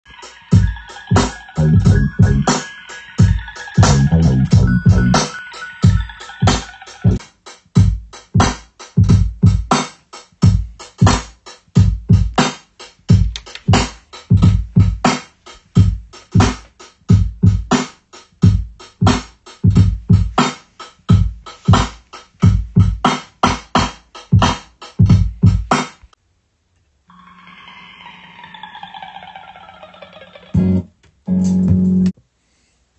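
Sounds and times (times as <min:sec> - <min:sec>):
boom-bap drum beat: 0:00.1 - 0:26.1, 0:30.6 - 0:32.2.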